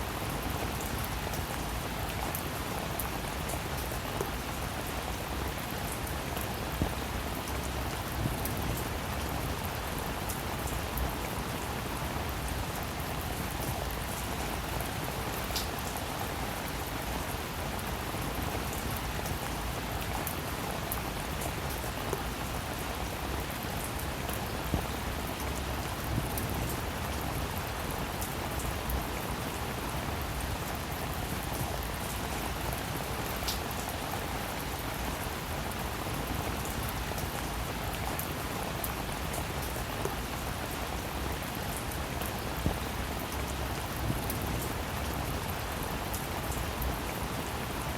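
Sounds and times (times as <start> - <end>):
steady rain falling: 0.0 - 47.9
raindrops ticking on surface: 0.1 - 47.9.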